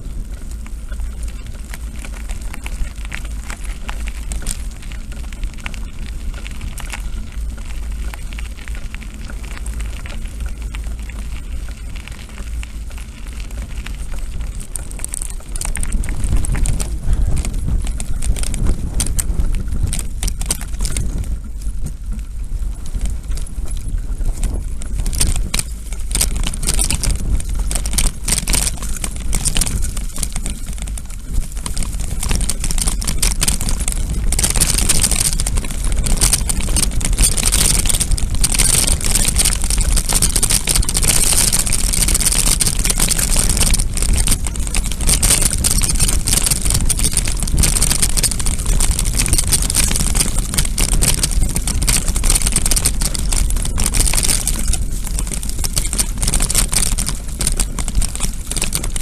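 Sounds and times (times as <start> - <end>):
bike rattling and knocking: 0.0 - 59.0
wind buffeting microphone: 0.0 - 59.0.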